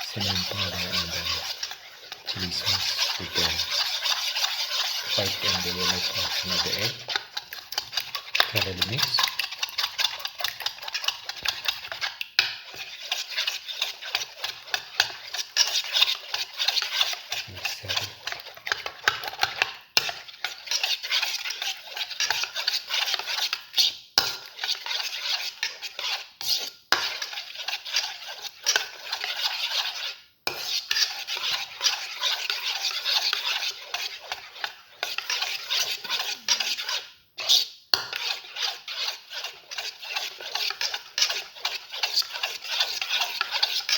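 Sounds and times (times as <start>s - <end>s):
utensil beating eggs in bowl: 0.0s - 43.9s.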